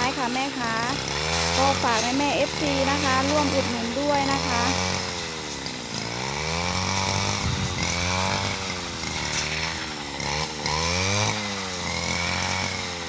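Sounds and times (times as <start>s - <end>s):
brush cutter engine cutting grass: 0.0s - 13.0s.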